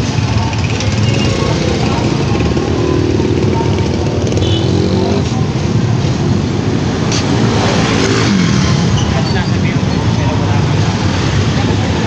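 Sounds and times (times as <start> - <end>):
motorcycles passing: 0.0 - 12.0
passers-by talking: 0.0 - 12.0
passing car engines: 0.0 - 12.0.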